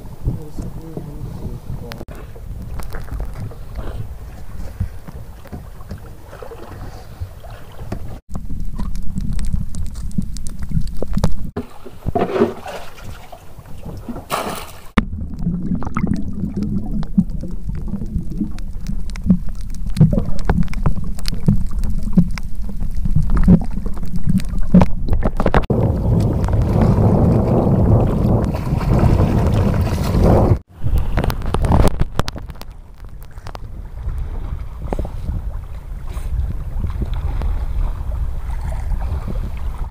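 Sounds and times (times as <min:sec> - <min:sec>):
muffled underwater rumble: 0:00.0 - 0:12.3, 0:15.0 - 0:39.9
small underwater clicks and knocks: 0:01.9 - 0:29.7, 0:30.8 - 0:35.4.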